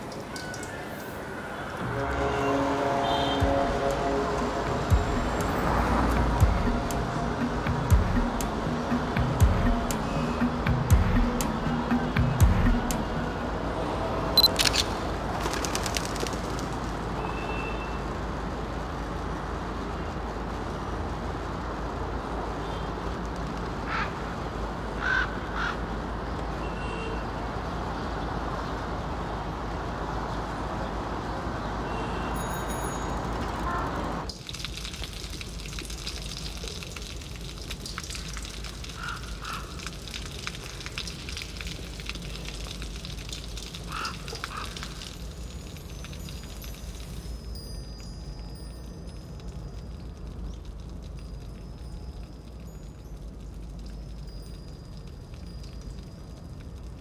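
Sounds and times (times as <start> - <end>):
distant traffic: 0.0 - 57.0.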